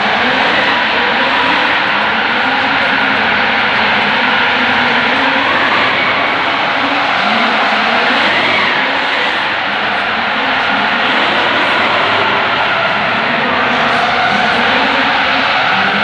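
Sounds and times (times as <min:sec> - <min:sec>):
car engine revving: 0:00.0 - 0:16.0
rush of tyre noise: 0:00.0 - 0:16.0.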